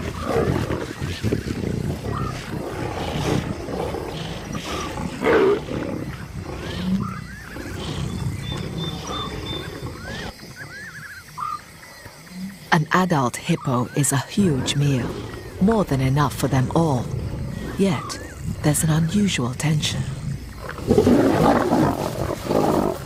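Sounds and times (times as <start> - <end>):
lions growling and snarling: 0.0 - 12.7, 14.4 - 18.6, 20.2 - 23.0.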